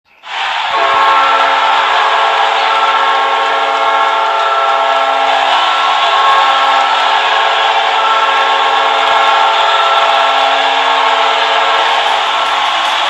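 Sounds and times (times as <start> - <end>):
dense noisy roar: 0.1 - 13.0
arena goal horn chord: 0.7 - 12.8.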